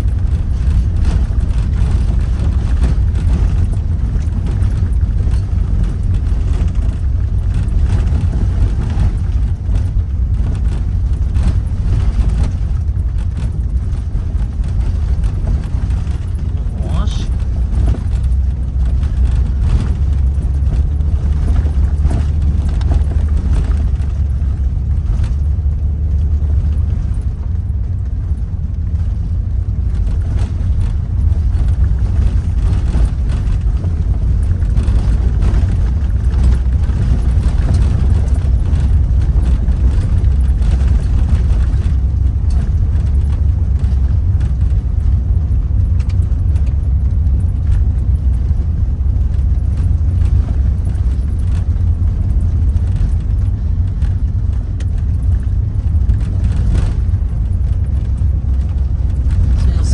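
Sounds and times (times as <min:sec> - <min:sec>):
gravel clicking under tyres: 0:00.0 - 0:59.9
vehicle rumble on gravel road: 0:00.0 - 0:59.9.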